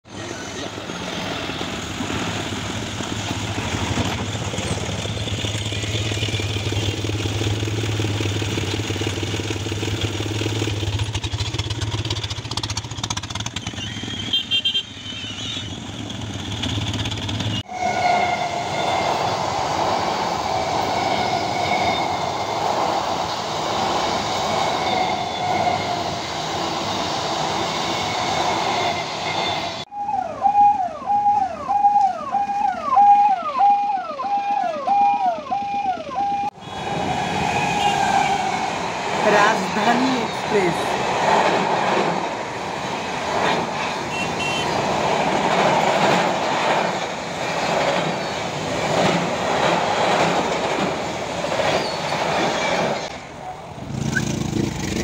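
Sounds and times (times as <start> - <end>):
train high whine: 0.0 - 55.0
train rumbling over bridge: 0.0 - 55.0
road traffic hum: 0.2 - 33.4, 34.3 - 55.0.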